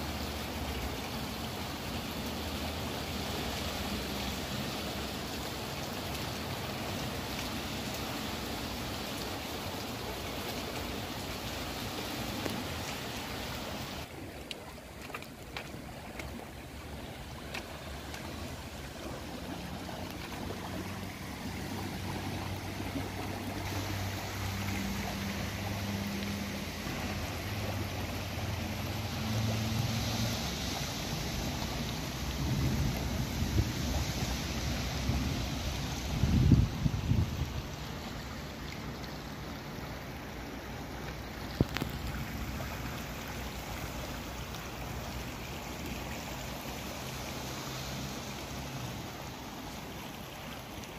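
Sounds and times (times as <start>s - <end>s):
water gushing from drain: 0.0s - 50.9s.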